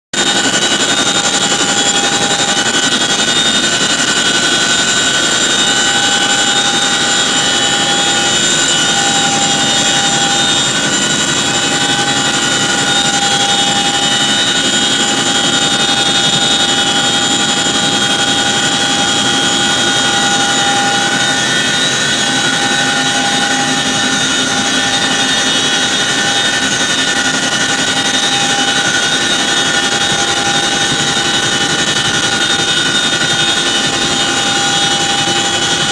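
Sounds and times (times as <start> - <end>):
helicopter engines and rotors: 0.1 - 35.9
high steady whines: 0.2 - 35.9.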